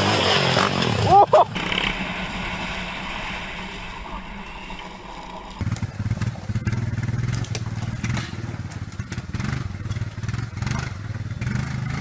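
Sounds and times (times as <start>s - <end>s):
quad engine revving unevenly: 0.0s - 4.1s, 4.8s - 12.0s
dirt bike engine running: 0.0s - 12.0s.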